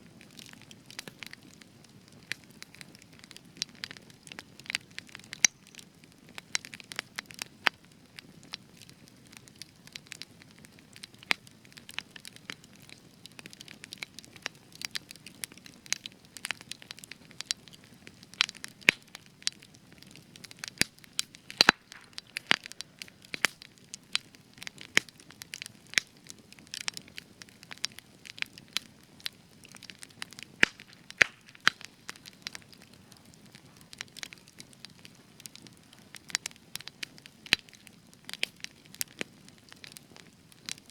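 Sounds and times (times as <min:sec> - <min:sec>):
soft rustle of flame: 0:00.0 - 0:40.9
wood fire crackling and popping: 0:00.0 - 0:40.9.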